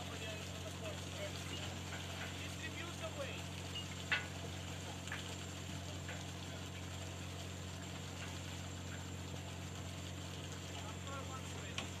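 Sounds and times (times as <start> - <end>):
deck machinery humming: 0.0 - 12.0.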